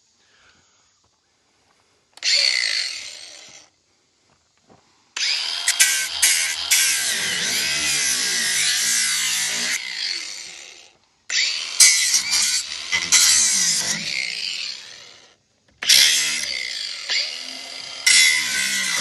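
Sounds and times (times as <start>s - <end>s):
angle grinder cutting steel: 2.2s - 3.7s, 5.2s - 19.0s.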